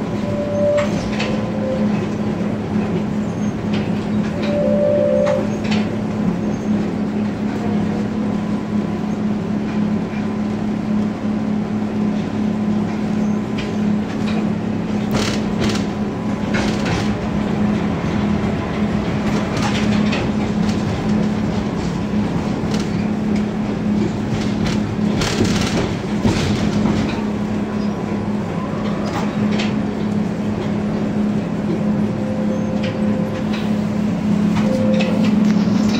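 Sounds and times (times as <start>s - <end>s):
wheels clacking over rail joints: 0.0s - 7.8s, 12.8s - 35.9s
tram running with low hum: 0.0s - 35.9s.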